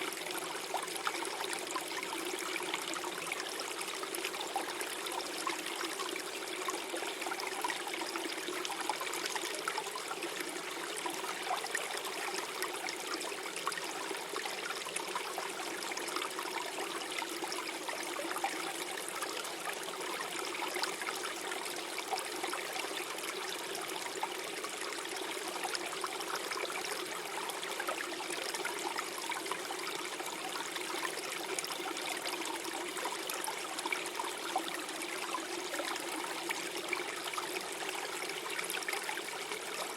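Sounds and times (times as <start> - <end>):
stream gurgling over stones: 0.0 - 39.9.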